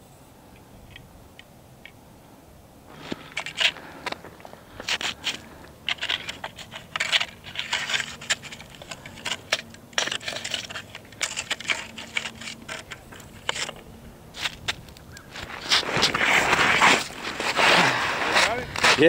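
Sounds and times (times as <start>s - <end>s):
gear handling clicks and scrapes: 2.9s - 19.0s.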